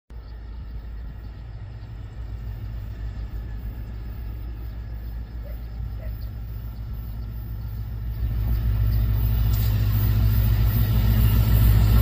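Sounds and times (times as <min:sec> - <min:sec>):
low outdoor rumble: 0:00.1 - 0:12.0.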